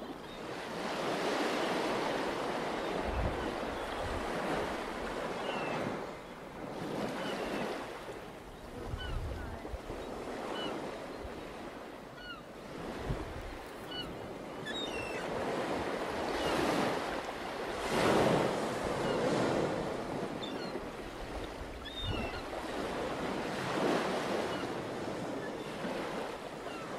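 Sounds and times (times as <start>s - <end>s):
waves breaking on beach: 0.0s - 26.9s.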